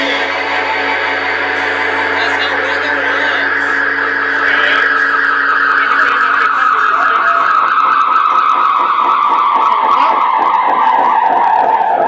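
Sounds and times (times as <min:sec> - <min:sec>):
storm rushing with falling whine: 0:00.0 - 0:09.8.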